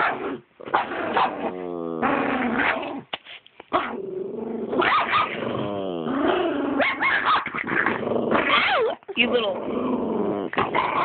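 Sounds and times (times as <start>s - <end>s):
dogs growling and whining: 0.0s - 3.1s, 3.7s - 11.0s.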